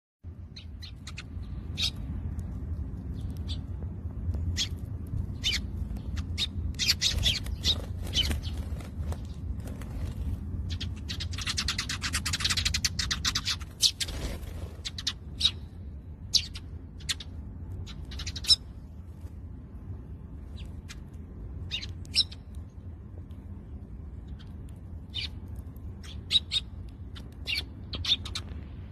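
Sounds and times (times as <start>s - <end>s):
steady low hum: 0.2s - 28.9s
sparrows chirping: 0.3s - 18.9s, 20.4s - 22.9s, 23.7s - 28.6s.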